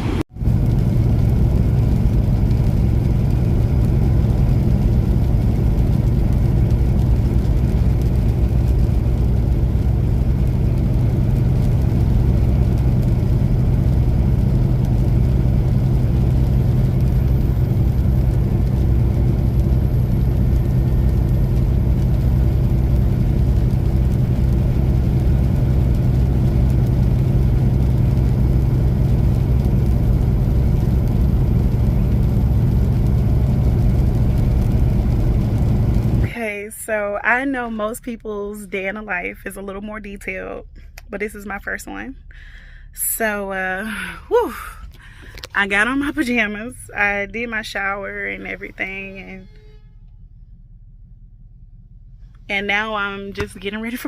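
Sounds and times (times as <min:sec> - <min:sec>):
diesel truck engine rumbling: 0:00.0 - 0:54.0.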